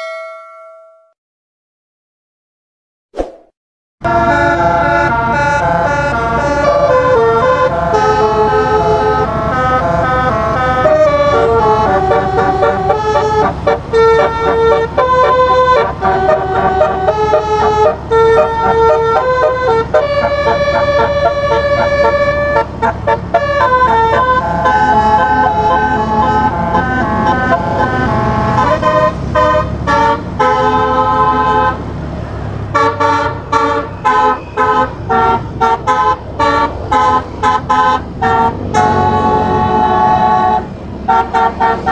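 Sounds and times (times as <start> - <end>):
horn trumpets playing a tune: 4.0 - 31.9, 32.7 - 41.9.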